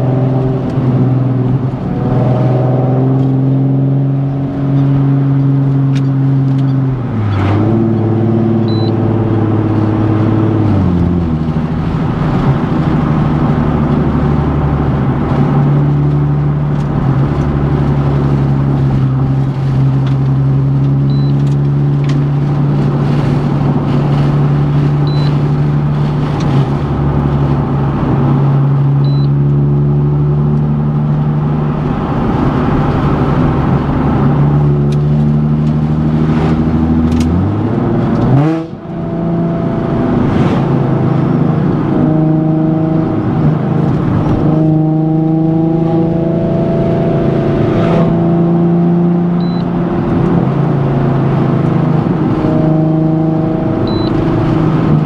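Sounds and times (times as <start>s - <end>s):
car engine droning: 0.0s - 55.0s.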